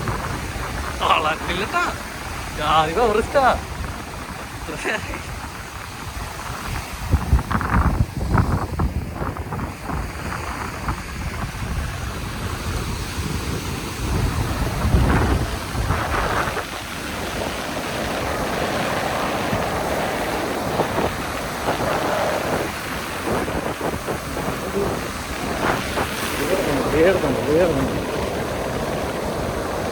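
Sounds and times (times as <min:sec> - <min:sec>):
surf breaking on beach: 0:00.0 - 0:29.9
wind buffeting microphone: 0:00.0 - 0:29.9.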